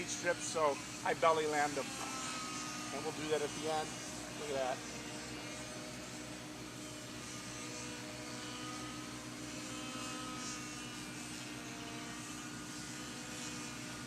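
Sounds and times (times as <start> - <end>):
electric motor propeller buzzing: 0.0 - 14.0.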